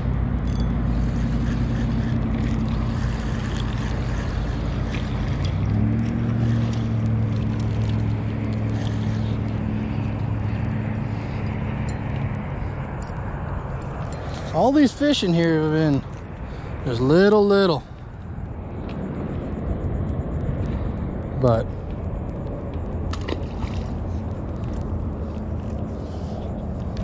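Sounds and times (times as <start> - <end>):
continuous rushing noise: 0.0 - 27.0
traffic engine drone: 0.0 - 27.0.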